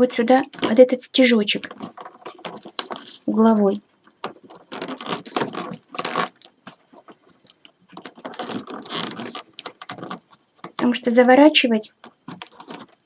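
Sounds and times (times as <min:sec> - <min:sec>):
paper tubes rustling and clicking: 0:00.0 - 0:11.1, 0:11.8 - 0:13.0.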